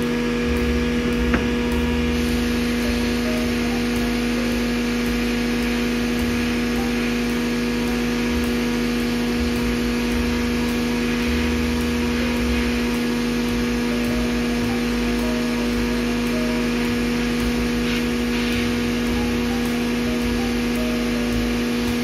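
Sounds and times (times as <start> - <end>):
even hiss: 0.0 - 22.0
machine electric hum: 0.0 - 22.0.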